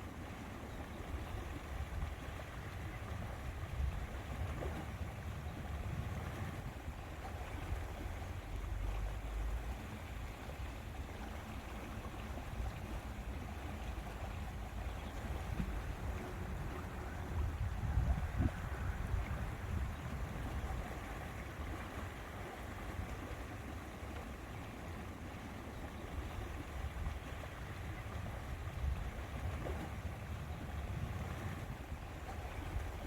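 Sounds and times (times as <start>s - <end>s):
lake water lapping: 0.0s - 33.0s
wind buffeting microphone: 1.1s - 8.8s, 12.1s - 23.7s, 25.8s - 33.0s.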